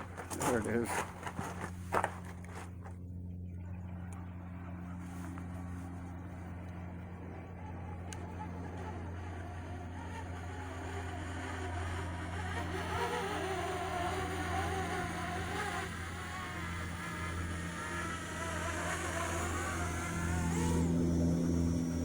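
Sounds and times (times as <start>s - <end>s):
drone propellers buzzing: 0.0s - 22.0s
steady low hum: 0.0s - 22.0s.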